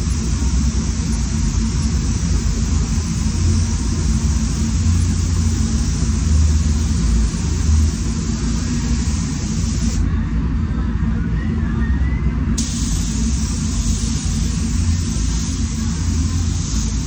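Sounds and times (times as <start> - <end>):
spray gun air hiss: 0.0 - 10.0, 12.6 - 17.0
ventilation fans rumbling: 0.0 - 17.0.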